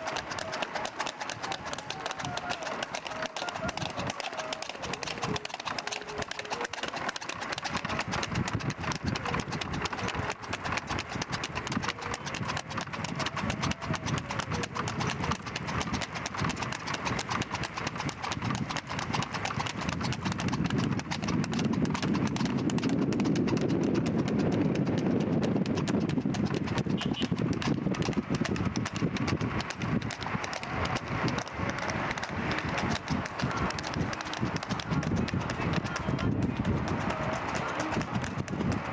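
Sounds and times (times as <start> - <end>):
horse hooves clip-clopping on road: 0.0 - 38.9.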